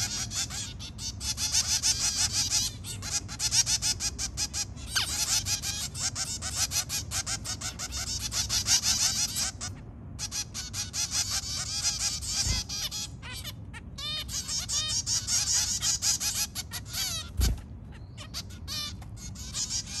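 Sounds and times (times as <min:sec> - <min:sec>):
finches chattering and chirping: 0:00.0 - 0:20.0.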